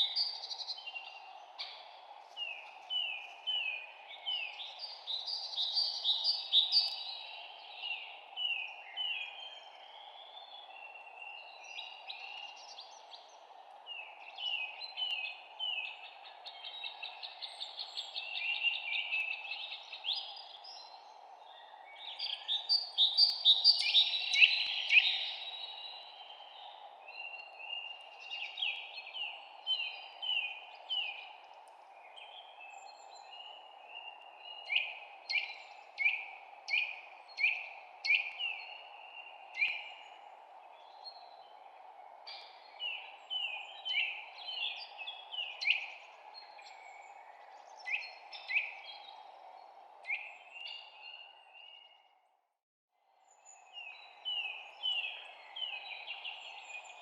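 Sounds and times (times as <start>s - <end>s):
songbirds chirping: 0.0s - 52.4s, 53.0s - 57.0s.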